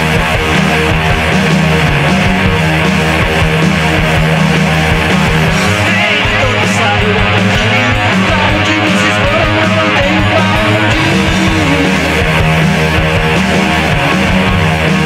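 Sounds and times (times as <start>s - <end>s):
guitar-led rock song: 0.0s - 15.0s.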